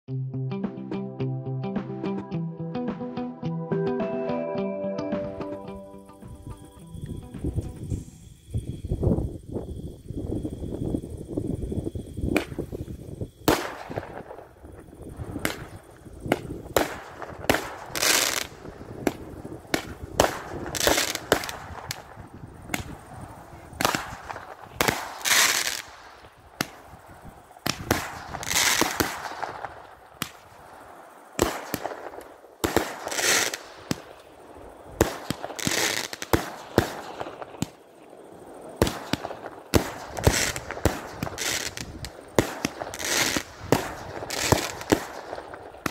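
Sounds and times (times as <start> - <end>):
firework hiss: 7.5 - 45.9.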